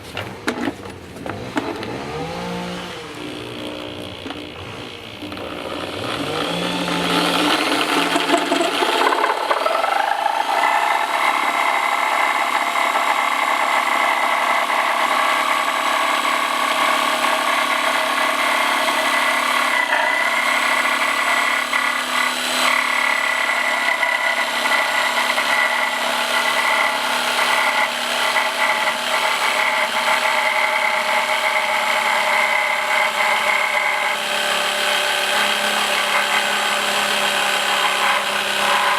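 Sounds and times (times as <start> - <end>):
reciprocating saw motor: 1.3 - 38.9.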